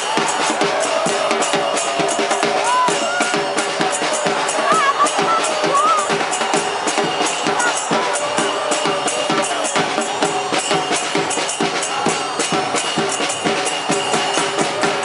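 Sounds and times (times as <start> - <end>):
crowd chanting: 0.0 - 15.0
drums beating fast: 0.0 - 15.0.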